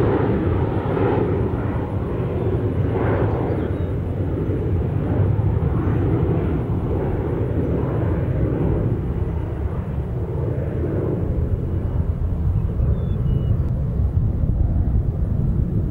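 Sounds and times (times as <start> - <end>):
jet engines rumbling: 0.0 - 15.9.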